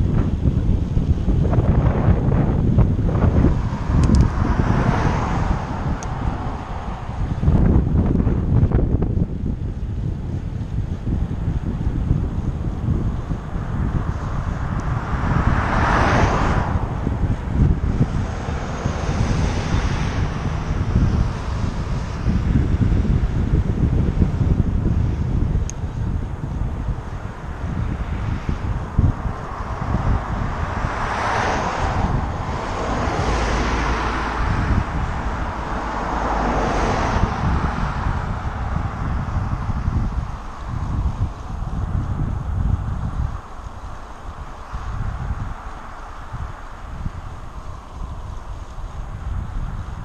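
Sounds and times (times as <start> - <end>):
passing cars: 0.0 - 50.0
wind buffeting microphone: 0.0 - 50.0.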